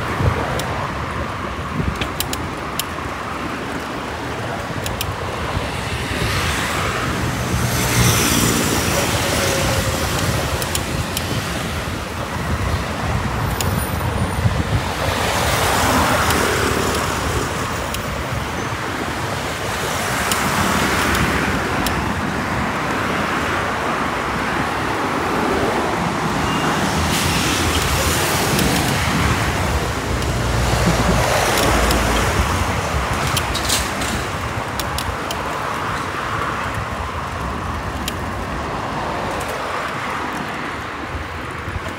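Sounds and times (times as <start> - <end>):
passing cars: 0.0 - 41.9.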